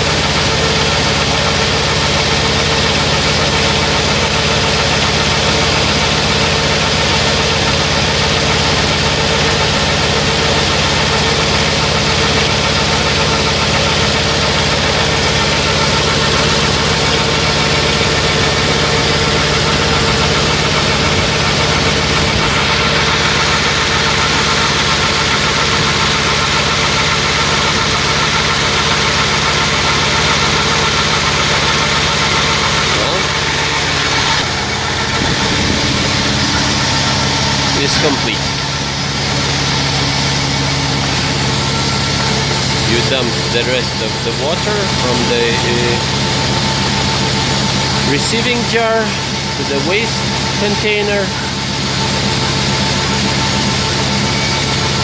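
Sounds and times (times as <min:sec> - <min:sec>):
vacuum pump running: 0:00.0 - 0:55.0.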